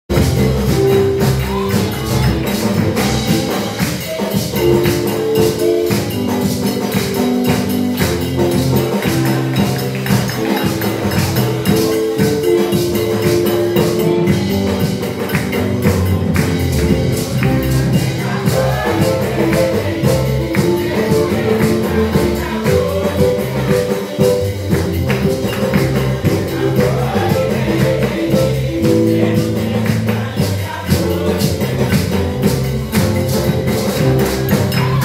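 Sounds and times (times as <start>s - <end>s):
keyboard: 0.1s - 35.0s
steady percussion beat: 0.1s - 35.0s.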